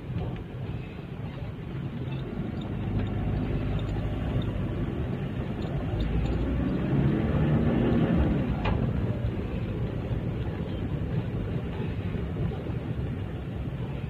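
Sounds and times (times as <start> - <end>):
vehicle engines in traffic: 0.0 - 14.0.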